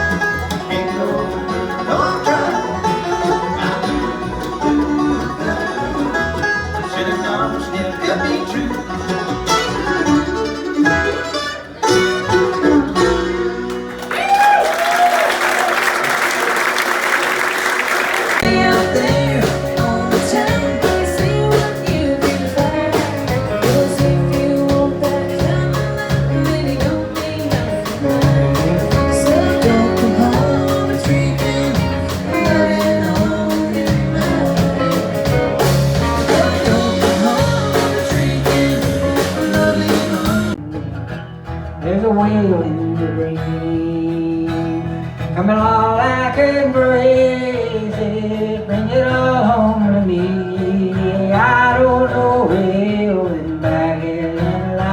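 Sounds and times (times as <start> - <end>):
country band with guitar and drums: 0.0 - 54.9.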